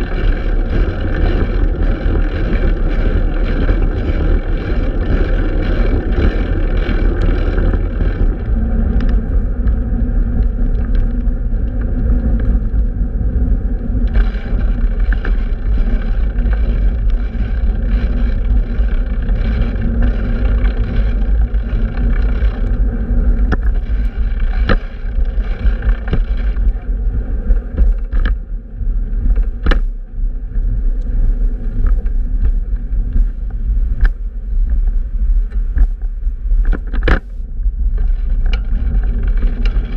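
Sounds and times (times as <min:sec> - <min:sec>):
road rumble and street traffic: 0:00.0 - 0:39.9.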